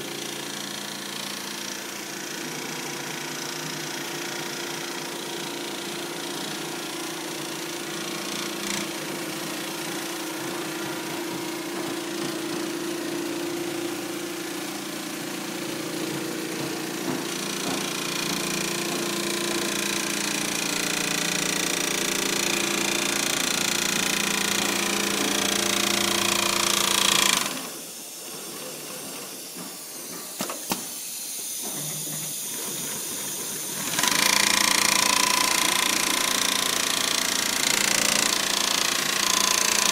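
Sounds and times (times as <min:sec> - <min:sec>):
quilting machine stitching: 0:00.0 - 0:39.9.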